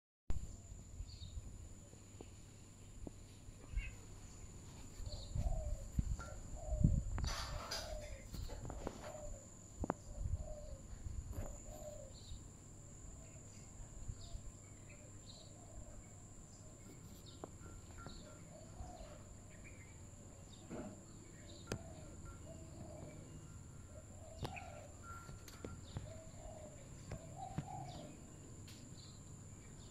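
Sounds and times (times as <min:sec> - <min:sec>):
birds chirping: 0:00.5 - 0:29.9.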